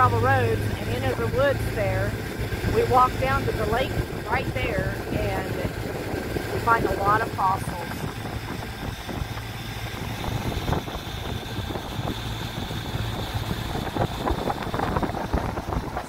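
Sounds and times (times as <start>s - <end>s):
outboard motor running: 0.0s - 16.0s
wind and water hiss: 0.0s - 16.0s.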